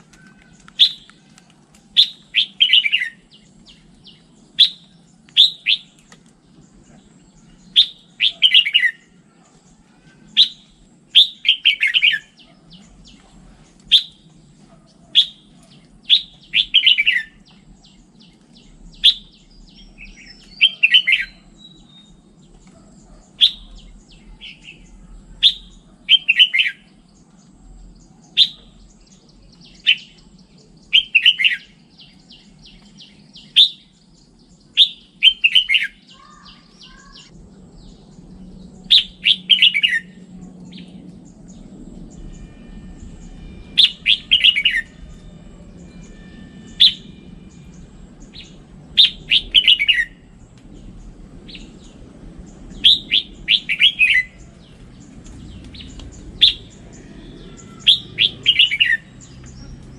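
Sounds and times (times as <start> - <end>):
bird singing warbled phrases: 0.0 - 59.9
faint low hum: 0.0 - 59.9.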